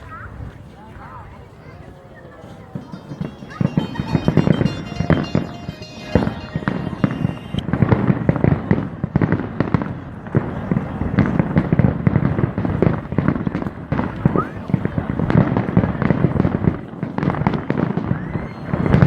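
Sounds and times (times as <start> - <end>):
fireworks bangs and crackling: 2.7 - 19.0.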